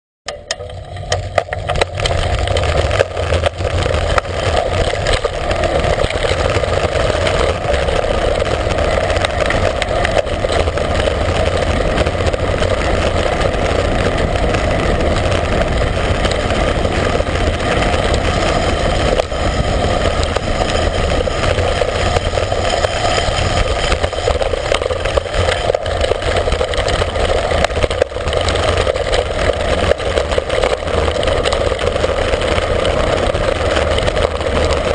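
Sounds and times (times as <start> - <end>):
wind buffeting microphone: 0.5 - 34.9.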